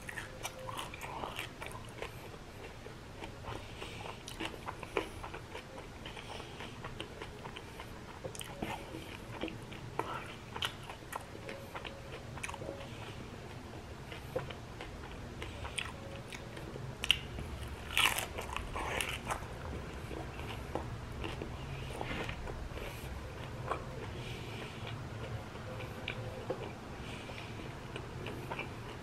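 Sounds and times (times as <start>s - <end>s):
chewing crunchy fried food: 0.0s - 29.0s.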